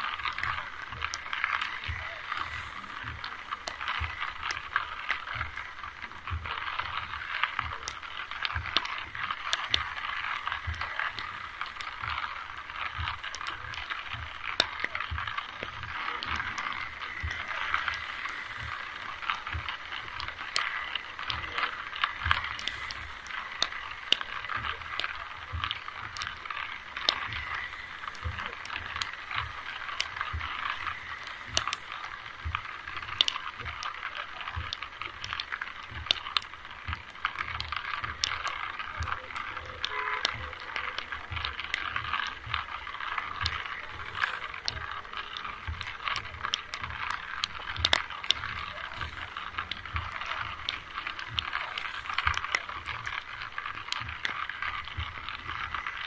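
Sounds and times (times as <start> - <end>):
rain pattering: 0.0 - 56.0
sharp drips and clicks: 0.0 - 56.0.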